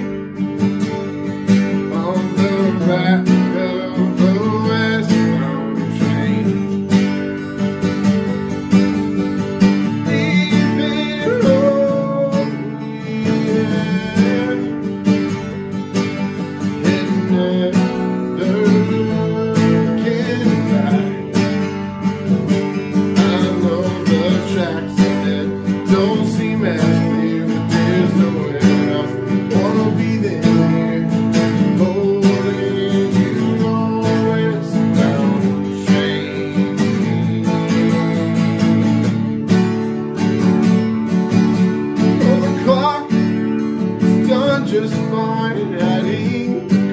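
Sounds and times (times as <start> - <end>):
acoustic guitars playing: 0.0 - 46.9.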